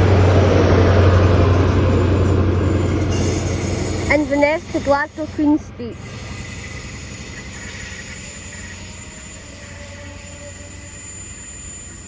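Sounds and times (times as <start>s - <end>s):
rail and wheel noise: 0.0s - 12.0s
train engine rumble: 0.0s - 12.0s.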